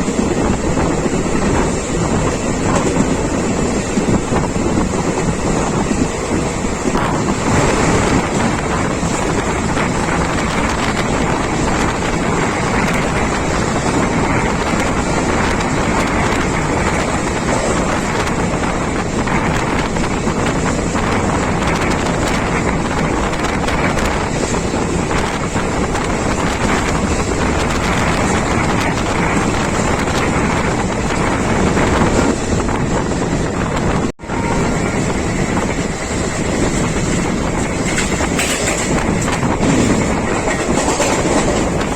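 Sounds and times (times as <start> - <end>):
passenger train running at speed: 0.0 - 41.9
wind on microphone: 0.0 - 41.9.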